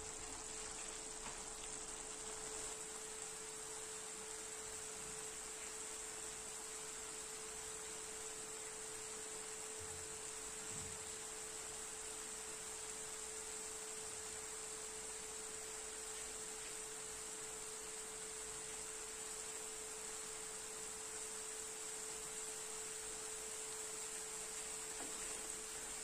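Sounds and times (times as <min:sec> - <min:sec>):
constant mid-pitched hum: 0:00.0 - 0:26.0
even hiss: 0:00.0 - 0:26.0.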